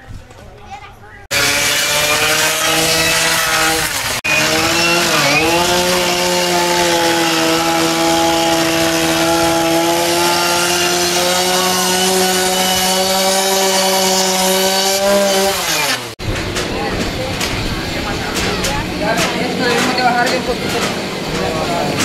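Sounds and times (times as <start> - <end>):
power saw motor running: 1.3 - 22.0.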